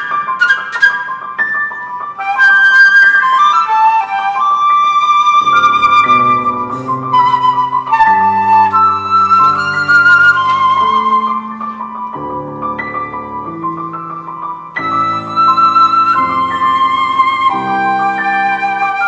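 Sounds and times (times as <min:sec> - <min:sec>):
flute melody: 0:00.0 - 0:19.0
piano accompaniment: 0:00.0 - 0:19.0.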